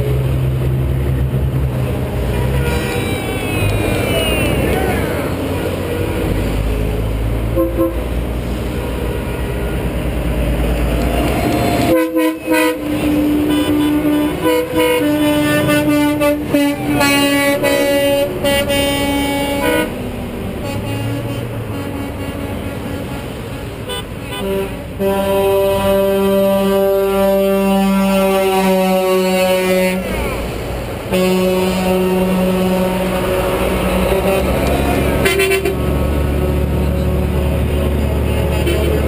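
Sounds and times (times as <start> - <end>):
passing engines and tyres rumble: 0.0 - 39.0
truck air horns blowing: 2.2 - 8.2, 10.7 - 39.0.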